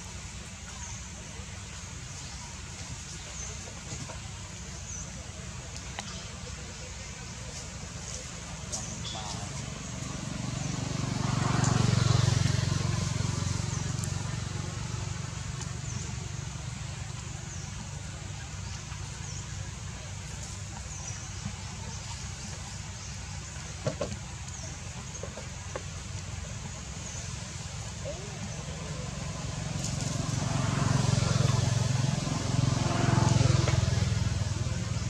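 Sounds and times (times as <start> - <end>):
low motor rumble: 0.0 - 35.0.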